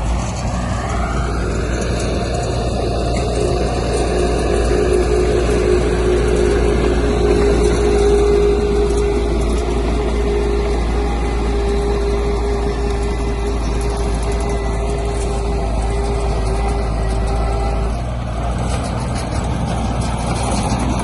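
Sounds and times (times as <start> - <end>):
steady hum: 0.0 - 18.0
heavy diesel engine running: 0.0 - 21.0.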